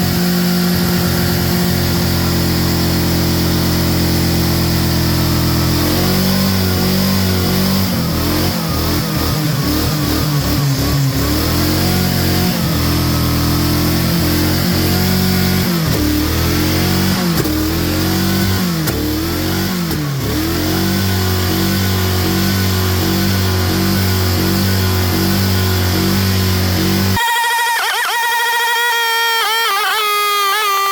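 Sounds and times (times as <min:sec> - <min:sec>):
car engine running: 0:00.0 - 0:27.2.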